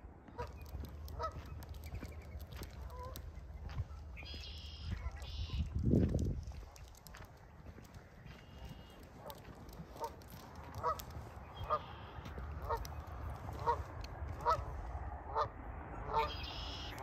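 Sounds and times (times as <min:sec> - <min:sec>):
geese honking: 0:00.3 - 0:05.8, 0:07.6 - 0:17.0.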